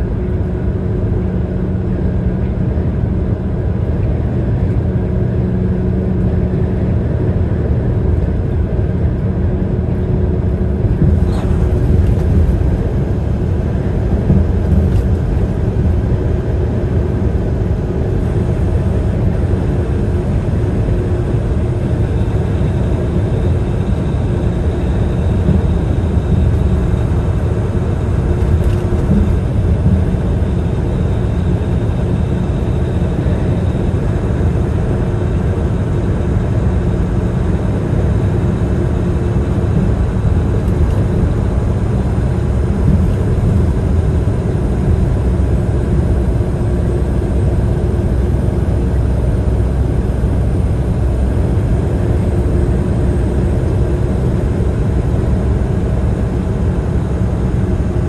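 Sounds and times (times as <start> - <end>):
engine and road noise in cabin: 0.0 - 58.0.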